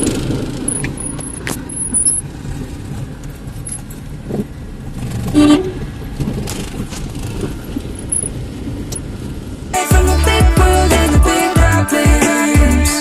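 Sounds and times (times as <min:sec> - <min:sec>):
vehicle engine rumbling: 0:00.0 - 0:11.9.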